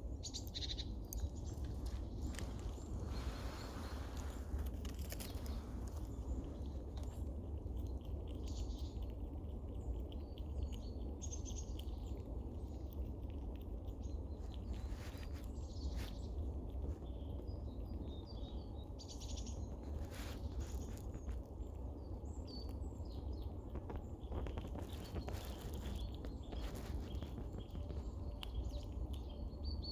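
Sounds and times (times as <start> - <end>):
low background rumble: 0.0 - 29.9
squirrel squeaks and clucks: 0.0 - 29.9.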